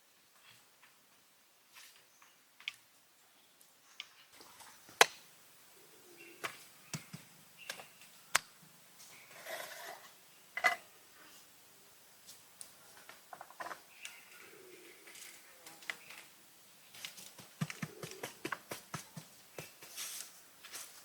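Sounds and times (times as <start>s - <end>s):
rustle: 0.0s - 21.0s.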